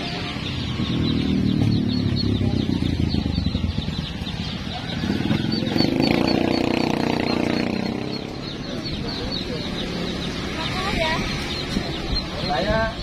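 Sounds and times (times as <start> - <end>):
chickens clucking and chicks peeping: 0.0 - 13.0
motorcycle engine running: 0.0 - 13.0.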